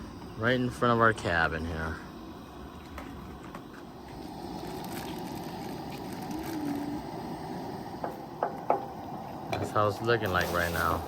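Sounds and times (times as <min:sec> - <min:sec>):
camp stove burner hissing: 0:00.0 - 0:11.0.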